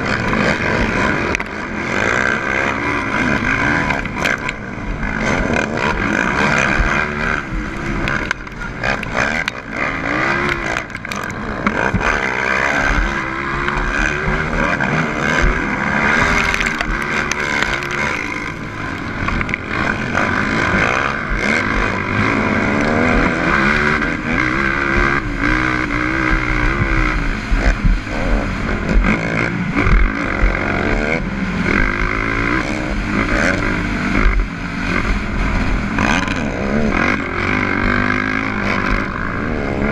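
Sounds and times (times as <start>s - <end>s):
quad engine revving hard: 0.0s - 39.9s.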